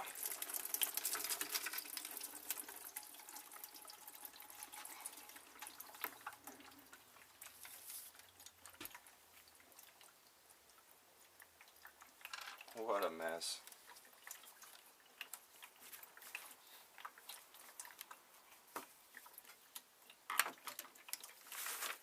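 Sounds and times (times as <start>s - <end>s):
dripping liquid: 0.0s - 22.0s
oil pouring into a tub: 0.0s - 22.0s.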